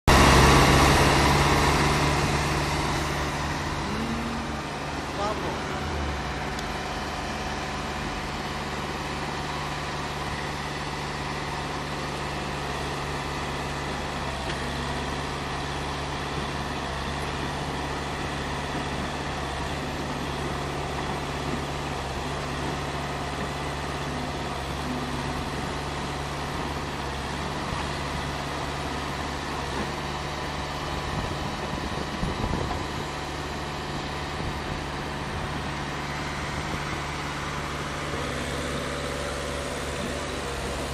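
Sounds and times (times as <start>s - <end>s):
concrete pump humming: 0.1s - 40.9s.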